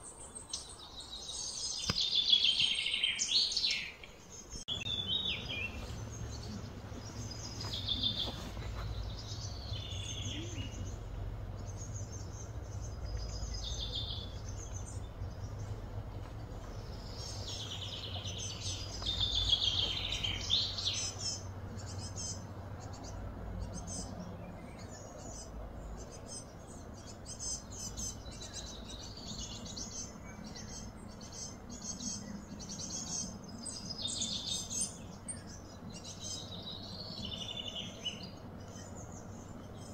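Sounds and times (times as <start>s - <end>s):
birds calling and chirping: 0.0s - 39.9s
low outdoor rumble: 3.0s - 39.9s.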